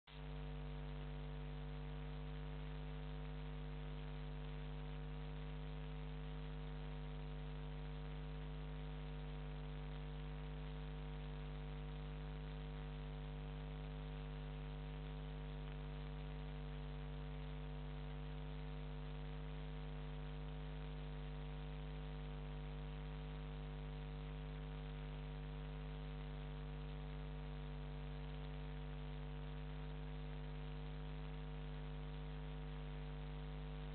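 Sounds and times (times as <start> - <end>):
electrical mains hum: 0.2 - 33.9.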